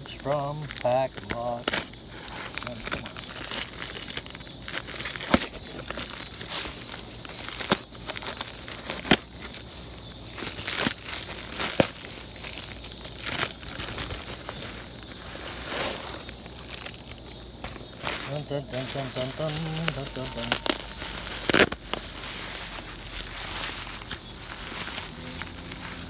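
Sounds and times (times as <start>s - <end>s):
plastic mailer crinkling: 0.0s - 26.0s
sharp plastic crackles: 0.0s - 26.0s.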